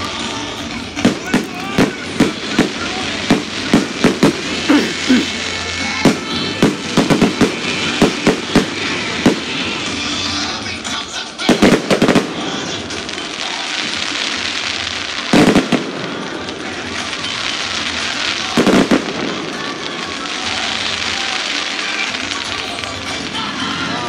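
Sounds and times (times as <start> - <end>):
fireworks shells bursting: 0.0 - 23.7.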